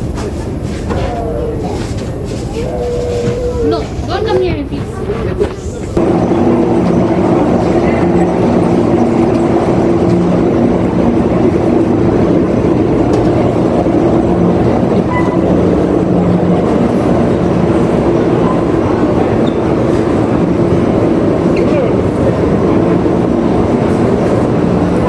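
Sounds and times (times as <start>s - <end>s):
factory machinery running: 0.0s - 25.0s.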